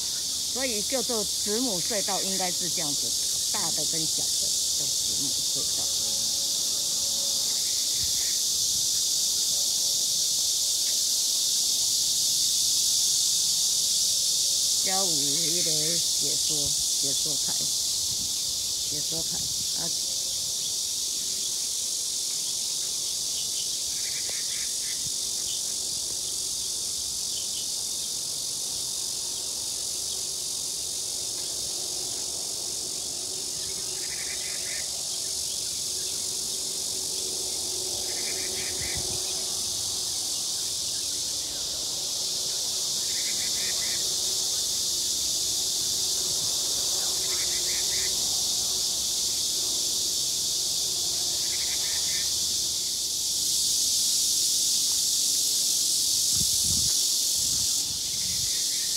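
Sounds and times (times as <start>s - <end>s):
high-pitched insect chorus: 0.0s - 58.9s.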